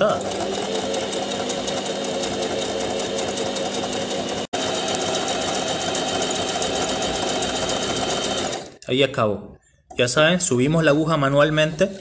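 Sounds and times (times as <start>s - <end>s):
sewing machine running: 0.0s - 8.8s, 11.1s - 12.0s.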